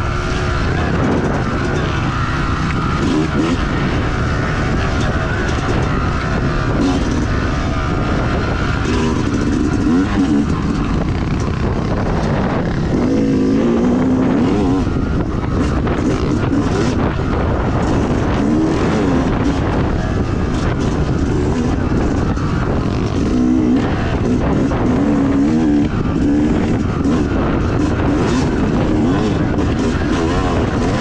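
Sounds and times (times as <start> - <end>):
dirt bike engine revving: 0.0 - 31.0
wind rumble on microphone: 0.0 - 31.0.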